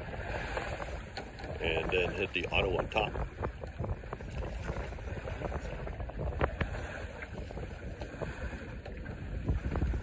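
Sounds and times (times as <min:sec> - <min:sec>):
water noise: 0:00.0 - 0:10.0
wind buffeting microphone: 0:00.0 - 0:10.0.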